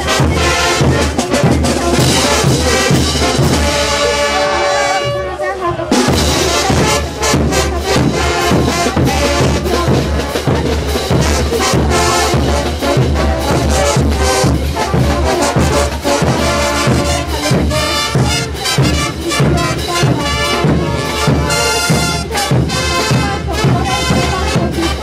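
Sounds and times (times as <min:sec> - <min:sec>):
bass drum beat: 0:00.0 - 0:04.2, 0:05.8 - 0:25.0
brass band playing: 0:00.0 - 0:25.0.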